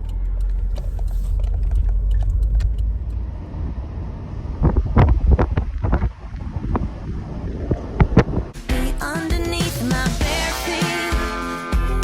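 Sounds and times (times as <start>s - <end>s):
car engine and road rumble: 0.0s - 10.2s.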